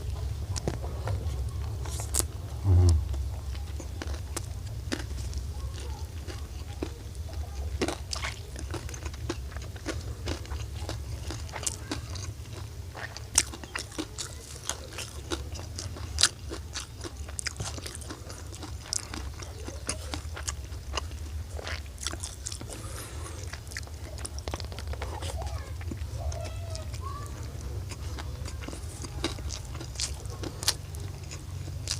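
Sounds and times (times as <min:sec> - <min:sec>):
person chewing crunchy food: 0:00.0 - 0:31.9
steady low hum: 0:00.0 - 0:31.9.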